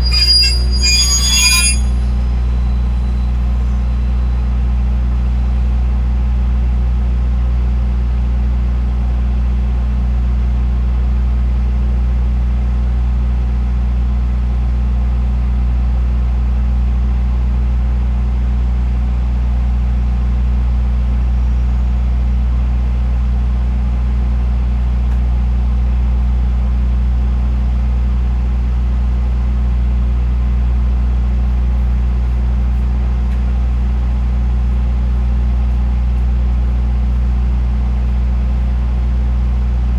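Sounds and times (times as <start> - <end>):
diesel train engine idling: 0.0 - 39.9.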